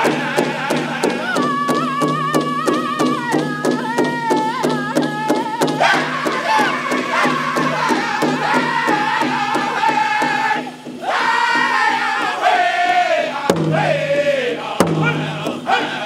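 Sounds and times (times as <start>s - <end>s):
hand drum beat: 0.0s - 16.0s
men singing in unison: 0.0s - 16.0s.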